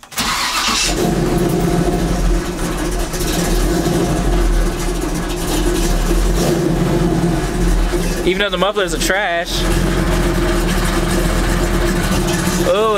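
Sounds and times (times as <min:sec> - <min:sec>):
car engine starting and idling: 0:00.0 - 0:12.9.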